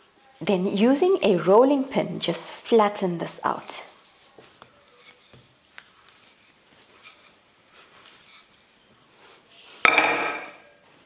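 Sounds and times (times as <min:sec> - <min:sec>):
rolling pin rubbing on pastry: 0:00.2 - 0:09.8.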